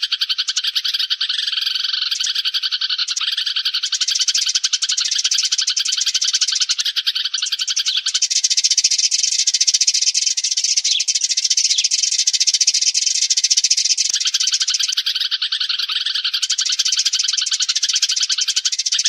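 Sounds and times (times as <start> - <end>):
flock of sparrows chirping: 0.0 - 19.0.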